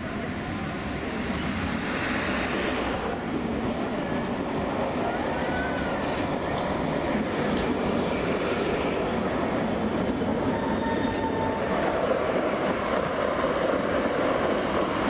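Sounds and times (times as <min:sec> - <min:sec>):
city street noise: 0:00.0 - 0:15.0
tram wheels rumbling on rails: 0:00.0 - 0:15.0.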